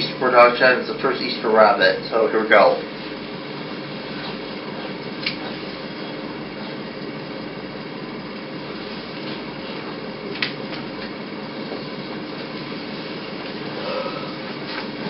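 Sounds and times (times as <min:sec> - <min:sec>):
faint hum: 0:00.0 - 0:15.0
steady rumbling noise: 0:00.0 - 0:15.0.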